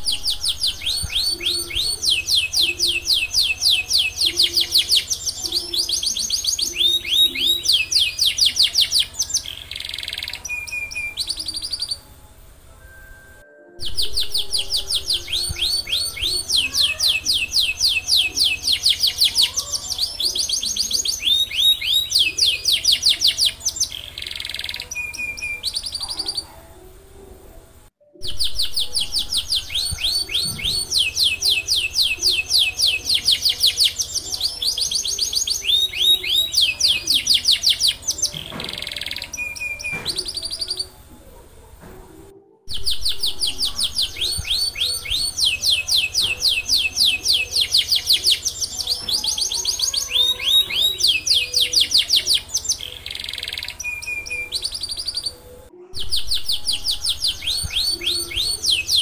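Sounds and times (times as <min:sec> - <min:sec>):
canary singing trills: 0:00.0 - 0:26.8, 0:28.1 - 0:41.6, 0:42.6 - 0:59.0.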